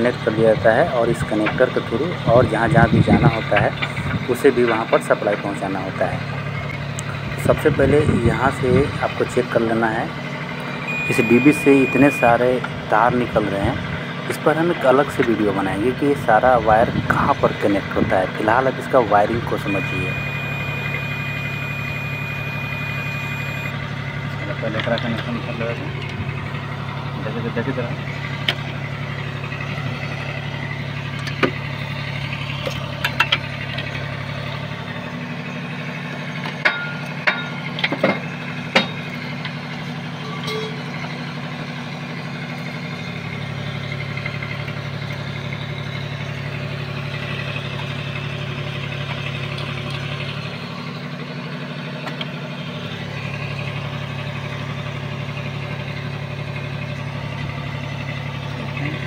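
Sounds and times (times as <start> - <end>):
low machinery drone: 0.0 - 59.0.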